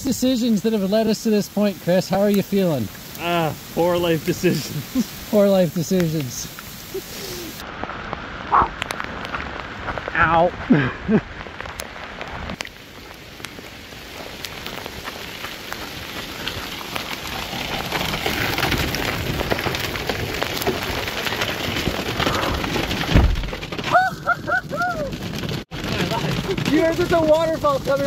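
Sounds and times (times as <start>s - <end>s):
heavy rain and hail: 0.0s - 28.0s.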